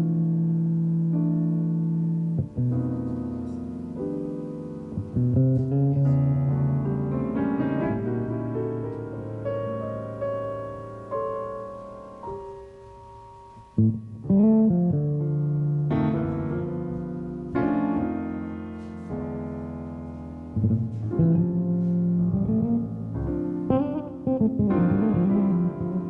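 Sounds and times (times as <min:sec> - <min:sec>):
piano playing chords: 0:00.0 - 0:26.0.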